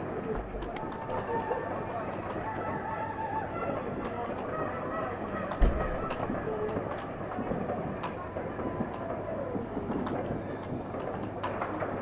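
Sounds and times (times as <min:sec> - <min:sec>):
fireworks pops and crackles: 0:00.0 - 0:12.0
low rumble of fireworks: 0:00.0 - 0:12.0.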